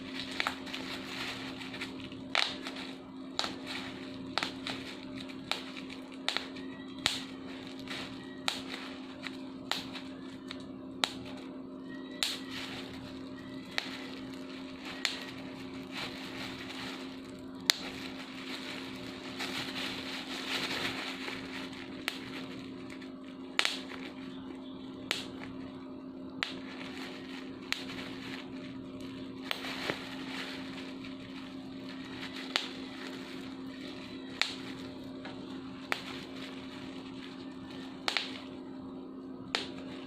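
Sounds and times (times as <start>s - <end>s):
bubble wrap popping: 0.0s - 40.0s
plastic crumpling: 0.0s - 40.0s.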